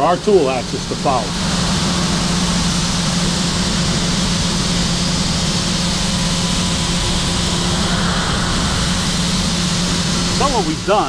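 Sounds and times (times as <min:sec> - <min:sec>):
machine spindle hum: 0:00.0 - 0:11.0.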